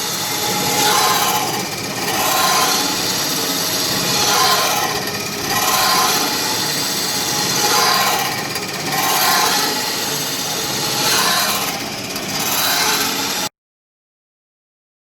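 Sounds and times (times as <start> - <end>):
abrasive wheels grinding steel springs: 0.0 - 13.5.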